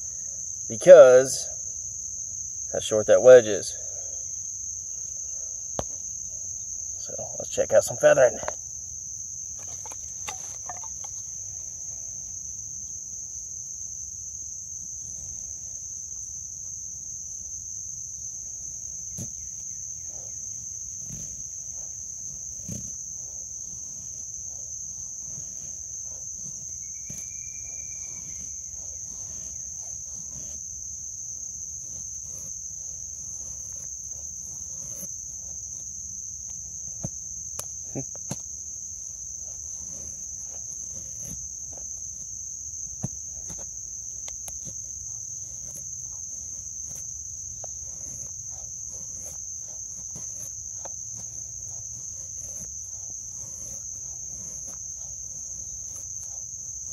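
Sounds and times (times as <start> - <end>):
insect chorus droning: 0.0 - 56.9.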